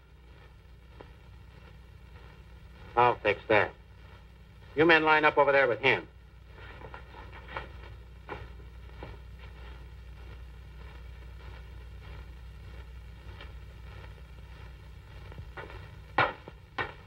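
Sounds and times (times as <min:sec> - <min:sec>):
boot footsteps shuffling: 0:00.0 - 0:17.0
film soundtrack hum and hiss: 0:00.0 - 0:17.0.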